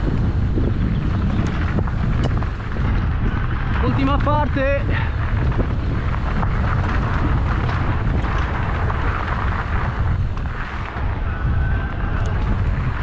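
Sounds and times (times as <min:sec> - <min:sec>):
bike knocking and rattling: 0:00.0 - 0:13.0
wind buffeting microphone: 0:00.0 - 0:13.0.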